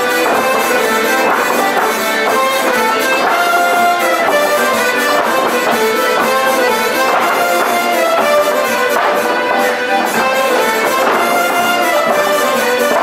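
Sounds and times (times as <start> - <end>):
brass instrumental music: 0.0 - 13.0.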